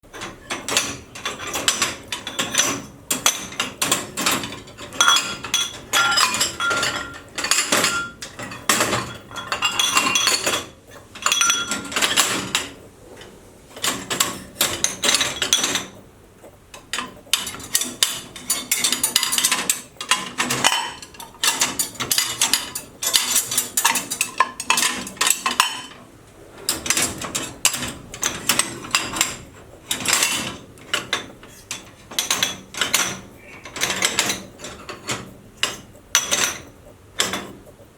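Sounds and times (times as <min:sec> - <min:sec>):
dishes clattering in a rack: 0:00.1 - 0:16.0, 0:16.7 - 0:37.6.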